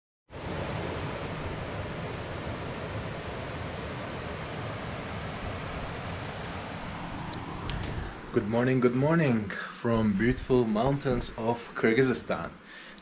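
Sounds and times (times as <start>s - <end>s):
outdoor rushing hiss: 0.7s - 13.0s.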